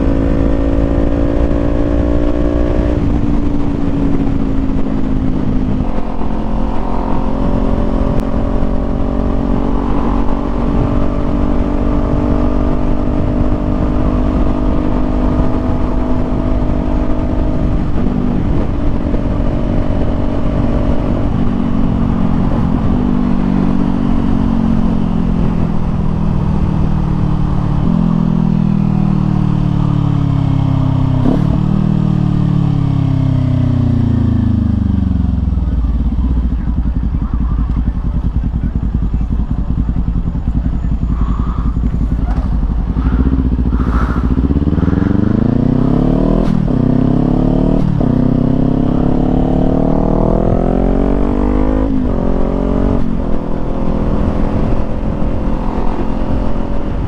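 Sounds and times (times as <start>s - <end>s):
wind rush on microphone: 0.0s - 29.0s, 33.2s - 57.0s
motorcycle engine cruising: 0.0s - 57.0s.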